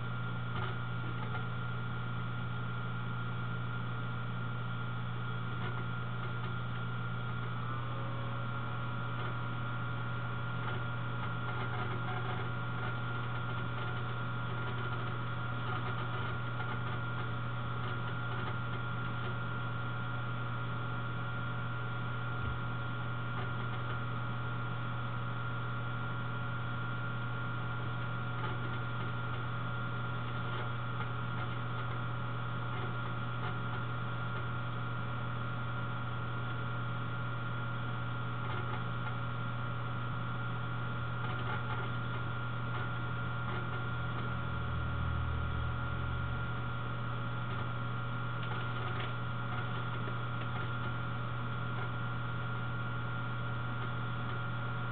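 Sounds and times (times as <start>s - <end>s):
faint high whine and hiss: 0.0s - 54.9s
low electrical hum: 0.0s - 54.9s.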